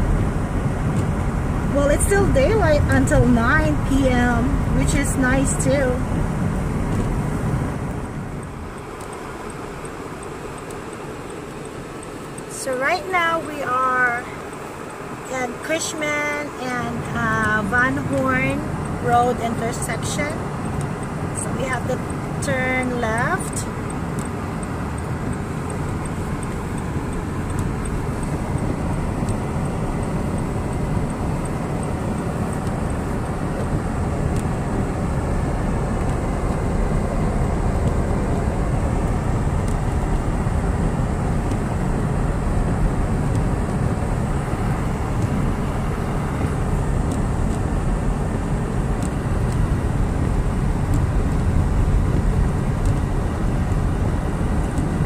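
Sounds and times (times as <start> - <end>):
car engine in cabin: 0.0 - 55.0.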